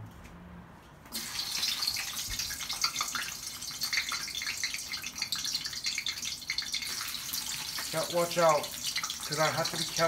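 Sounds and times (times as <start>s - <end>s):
chips sizzling in hot oil: 1.1s - 10.0s.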